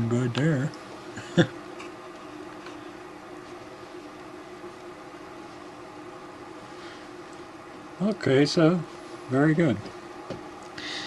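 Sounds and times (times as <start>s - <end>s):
faint hum: 0.0s - 11.0s
steady background hiss: 0.0s - 11.0s.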